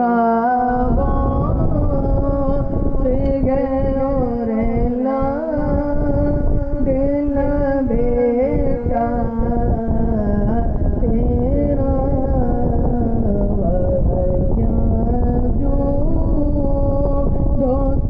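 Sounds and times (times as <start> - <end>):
man singing into a microphone: 0.0 - 18.0
low rumble: 0.7 - 18.0.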